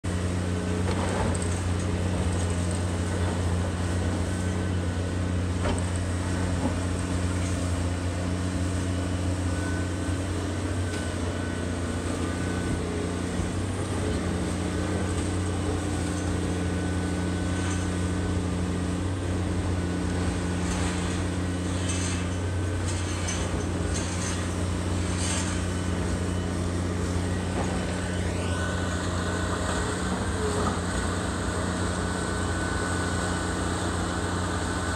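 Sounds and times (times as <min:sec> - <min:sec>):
large engine humming: 0:00.1 - 0:34.9.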